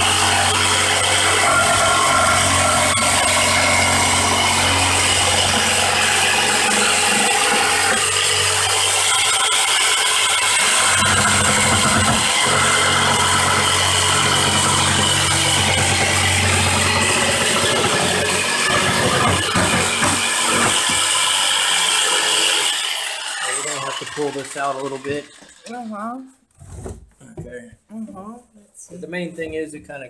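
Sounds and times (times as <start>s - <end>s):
jigsaw sawing through wood: 0.0s - 26.3s.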